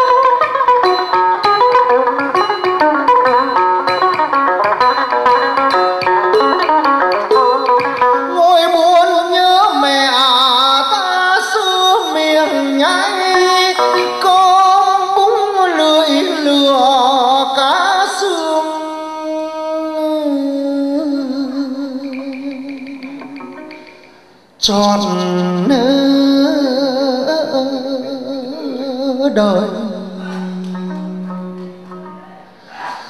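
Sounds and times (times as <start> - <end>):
plucked lute notes: 0.0 - 32.7
person singing with wavering ornamentation: 0.0 - 33.0.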